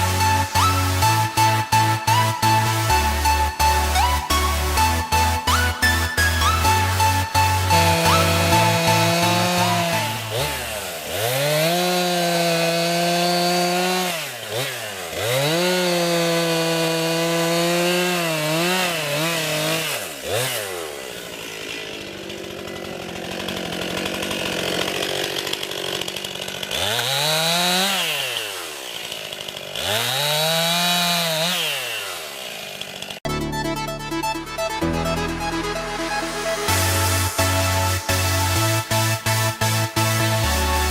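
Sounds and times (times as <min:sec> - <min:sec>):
chainsaw cutting wood: 0:00.0 - 0:33.5, 0:34.8 - 0:40.9.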